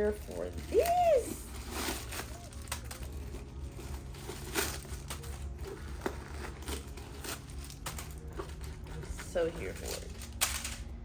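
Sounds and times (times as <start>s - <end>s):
bag packaging crinkling: 0.0s - 11.0s.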